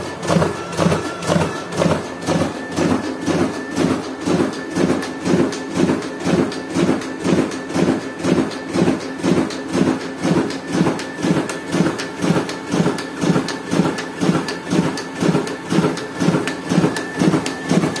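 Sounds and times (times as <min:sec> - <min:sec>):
printer feeding paper rhythmically: 0:00.0 - 0:18.0.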